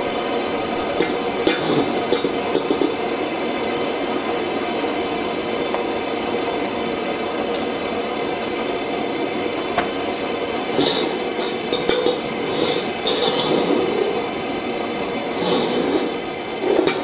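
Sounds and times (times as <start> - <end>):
gas burner hissing: 0.0 - 17.0.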